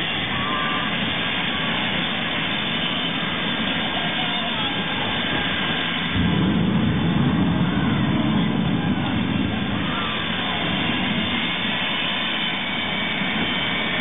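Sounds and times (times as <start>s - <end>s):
jet engine roaring: 0.0s - 14.0s.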